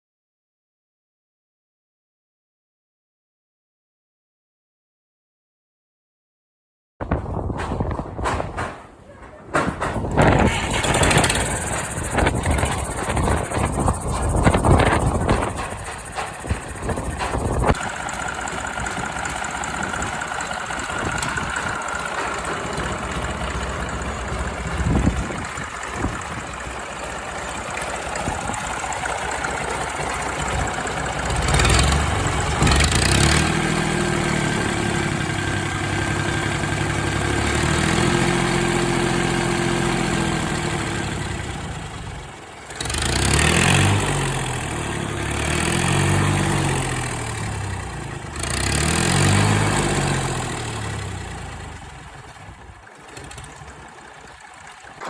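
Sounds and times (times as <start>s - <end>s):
diesel engine revving: 10.1s - 55.0s.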